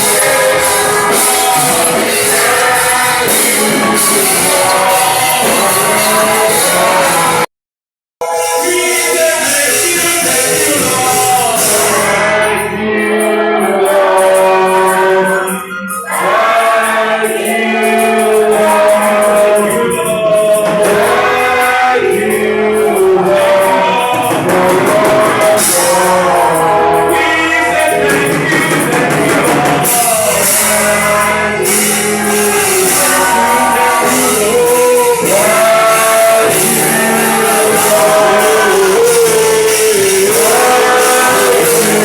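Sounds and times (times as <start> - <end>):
instrumental accompaniment: 0.0 - 7.5, 8.2 - 42.0
voices singing gospel song: 0.0 - 7.5, 8.2 - 42.0.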